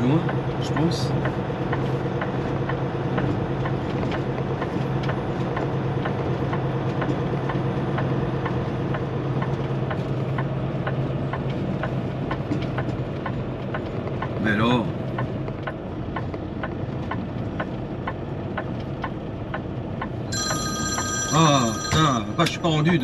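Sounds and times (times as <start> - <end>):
diesel truck engine running: 0.0 - 23.0
turn signal ticking: 0.0 - 23.0.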